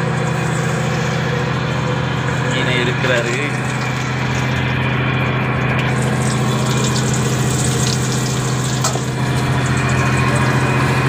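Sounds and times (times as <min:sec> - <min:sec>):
boat engine droning: 0:00.0 - 0:11.0
fish deep-frying in oil: 0:00.0 - 0:11.0.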